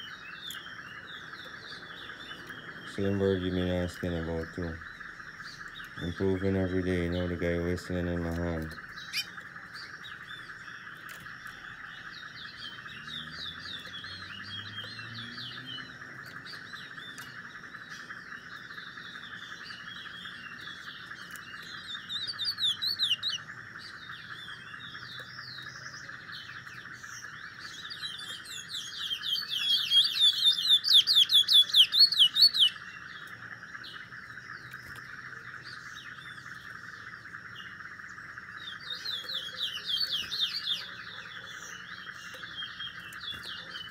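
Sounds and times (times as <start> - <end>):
songbird singing and trilling: 0.0 - 43.9.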